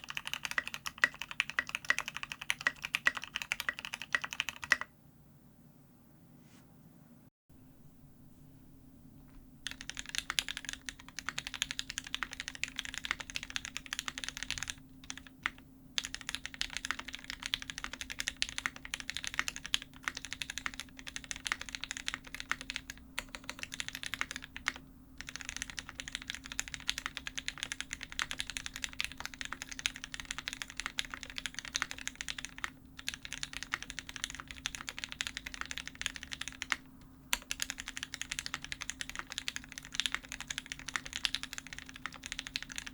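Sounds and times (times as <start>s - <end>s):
fast typing on mechanical keyboard: 0.0s - 4.9s, 9.6s - 42.9s.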